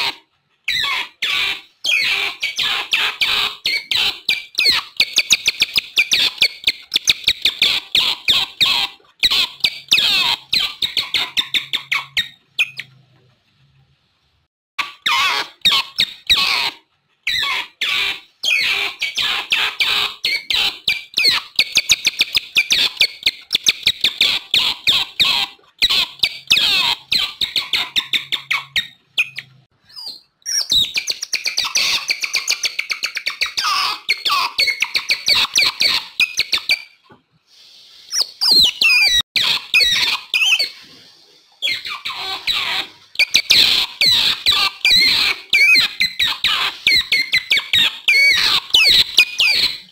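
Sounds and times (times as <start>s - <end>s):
otters chirping and squeaking: 0.0s - 13.2s, 14.8s - 37.2s, 38.1s - 49.9s.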